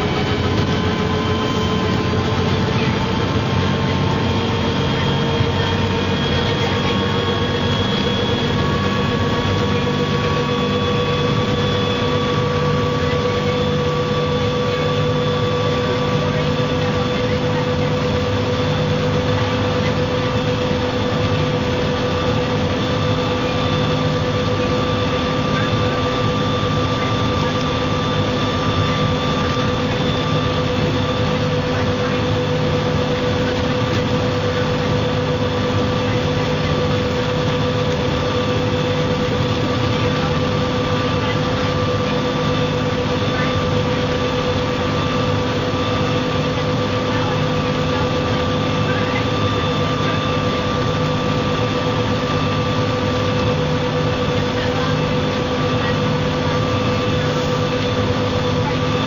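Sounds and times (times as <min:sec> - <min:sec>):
bus diesel engine drone: 0:00.0 - 0:59.0
steady whine: 0:00.0 - 0:59.0.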